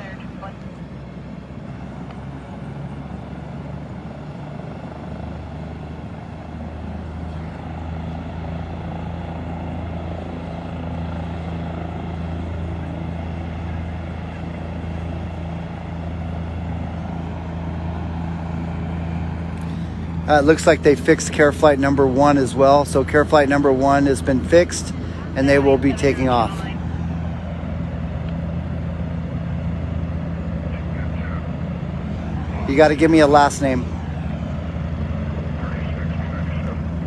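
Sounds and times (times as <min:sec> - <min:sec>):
helicopter engine and rotors droning: 0:00.0 - 0:37.0.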